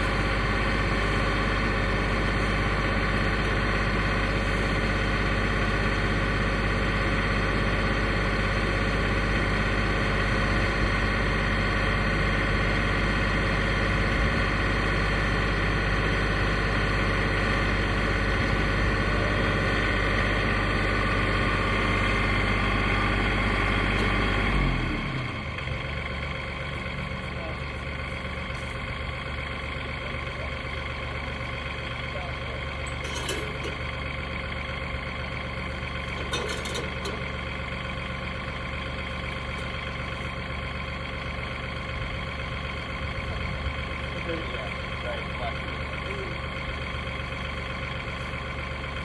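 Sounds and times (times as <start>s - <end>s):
sawmill engine running: 0.0s - 49.0s.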